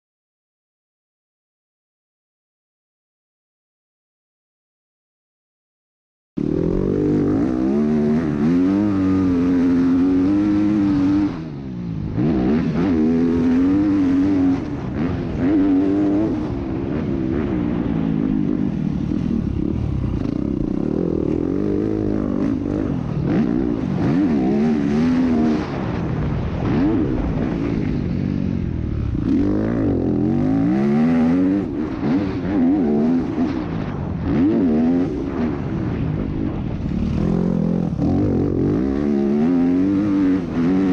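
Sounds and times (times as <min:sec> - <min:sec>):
motocross bike engine revving: 0:06.4 - 0:36.0, 0:36.8 - 0:40.9.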